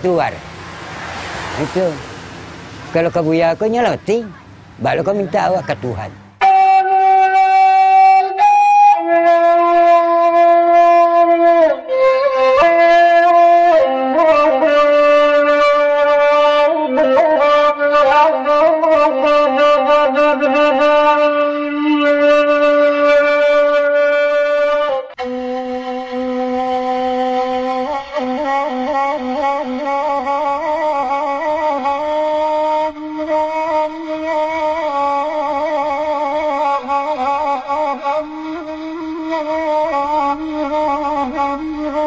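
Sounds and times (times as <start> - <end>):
flute-like slow melody: 6.4 - 42.0.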